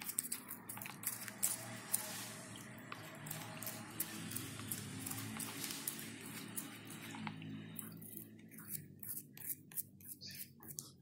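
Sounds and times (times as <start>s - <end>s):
toothbrush scrubbing wet brush: 0.0s - 11.0s.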